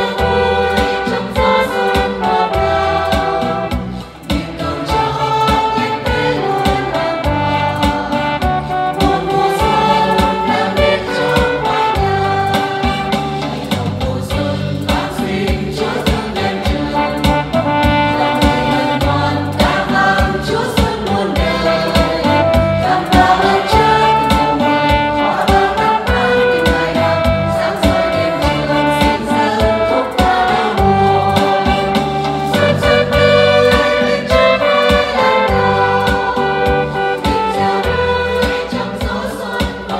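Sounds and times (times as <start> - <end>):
small choir singing a hymn: 0.0 - 39.9
sustained keyboard accompaniment: 0.0 - 39.9.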